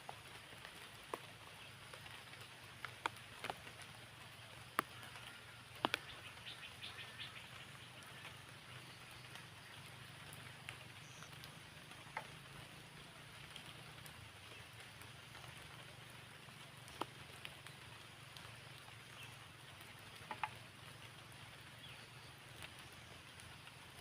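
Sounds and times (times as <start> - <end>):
light rain hiss: 0.0 - 24.0
sharp taps and drips: 0.2 - 6.6, 8.0 - 21.6.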